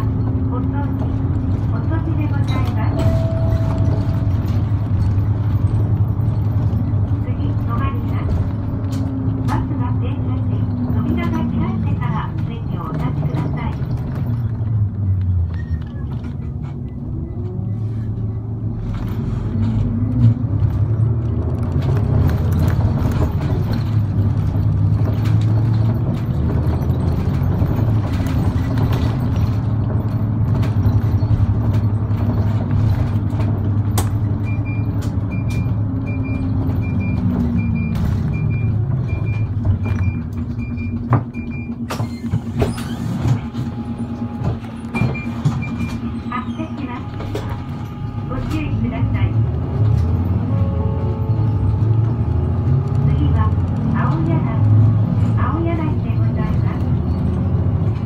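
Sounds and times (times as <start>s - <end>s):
bus engine: 0.0s - 58.0s.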